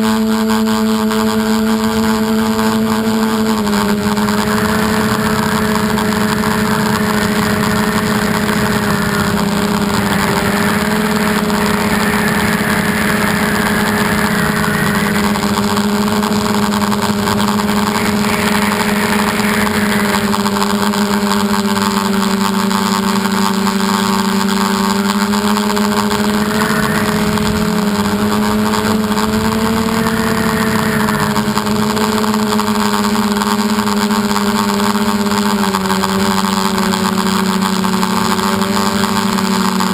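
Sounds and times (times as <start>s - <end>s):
model aircraft motor buzzing: 0.0s - 39.9s.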